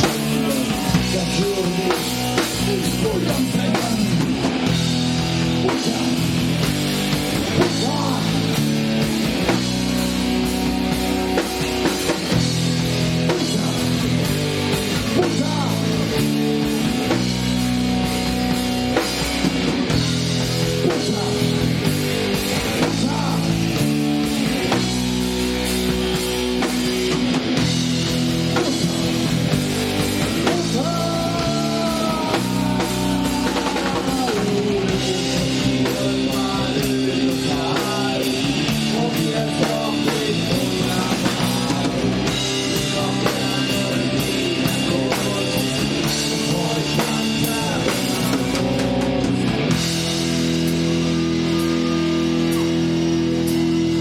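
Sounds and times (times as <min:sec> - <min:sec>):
live punk rock band playing: 0:00.0 - 0:54.0.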